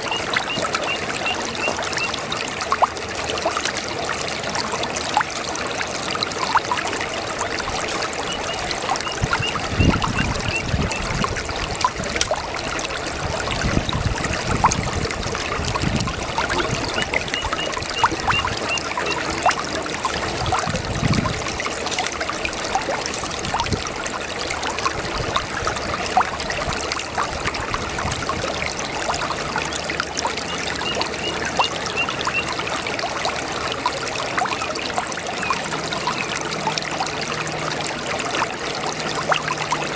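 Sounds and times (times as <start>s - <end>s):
brook water gurgling: 0.0s - 39.9s.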